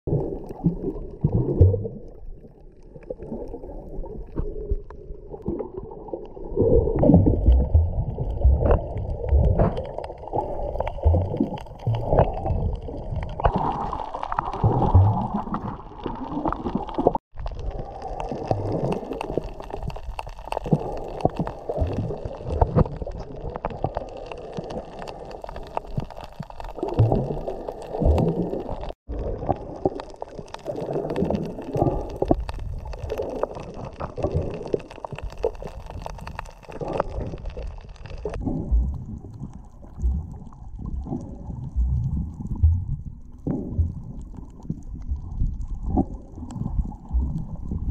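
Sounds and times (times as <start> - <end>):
low underwater rumbles and thumps: 0.1 - 47.9
muffled water sloshing and gurgling: 0.1 - 47.9.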